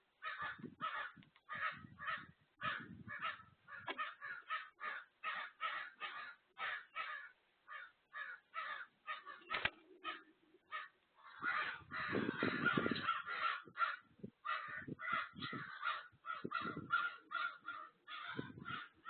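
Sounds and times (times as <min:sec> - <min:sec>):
harsh caw-like bird calls: 0:00.2 - 0:19.0.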